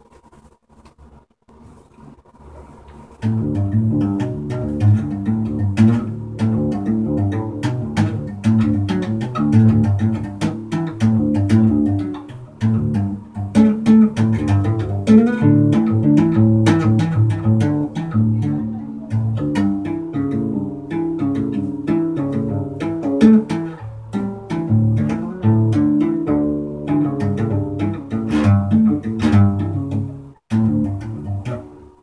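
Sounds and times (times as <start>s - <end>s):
tapped nylon-string guitar: 2.8s - 32.0s.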